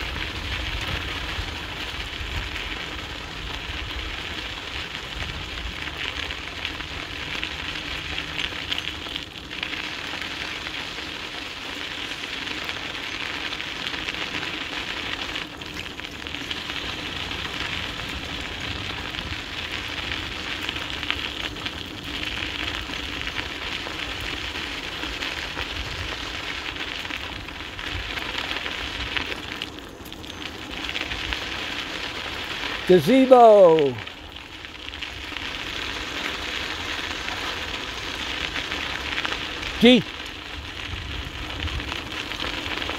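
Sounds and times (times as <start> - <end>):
wind rumble on microphone: 0.0 - 12.9, 13.7 - 32.9, 33.9 - 42.9
tyres rolling on dirt: 0.0 - 42.9.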